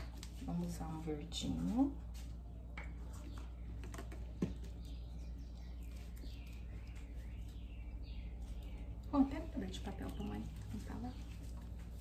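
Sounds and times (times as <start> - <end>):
faint birds chirping: 0.0 - 12.0
steady low hum: 0.0 - 12.0.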